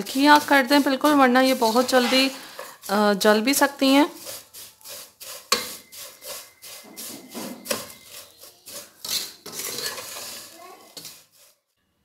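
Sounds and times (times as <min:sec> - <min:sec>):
spatula scraping a pan: 0:00.0 - 0:11.8.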